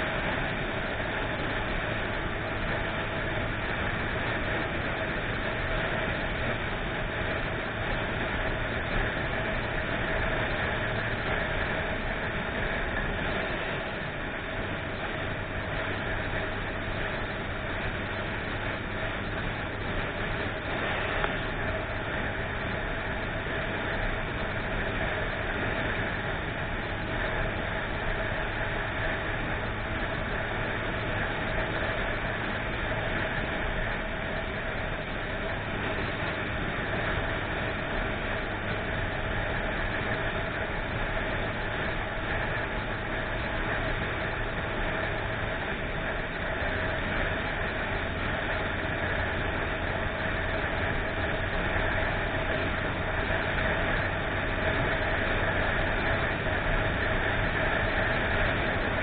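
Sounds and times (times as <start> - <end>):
vehicle engine and cabin noise: 0.0 - 59.0.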